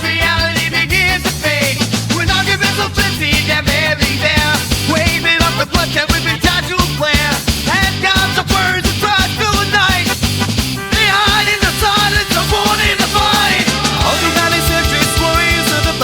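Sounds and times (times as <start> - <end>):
bending lead guitar melody: 0.0 - 16.0
driving drums: 0.0 - 16.0
steady low bass line: 0.0 - 16.0.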